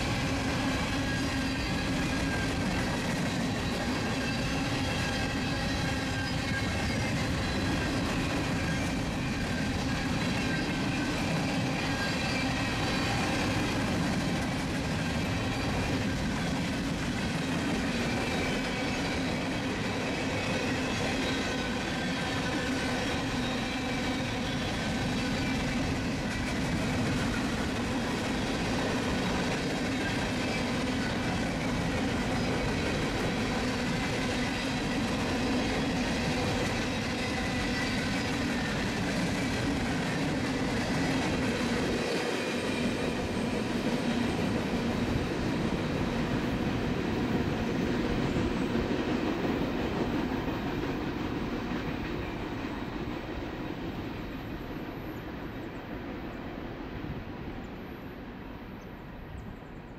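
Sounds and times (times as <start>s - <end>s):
faint ringing of wheels on rails: 0.0s - 59.9s
freight train rolling past: 0.0s - 59.9s.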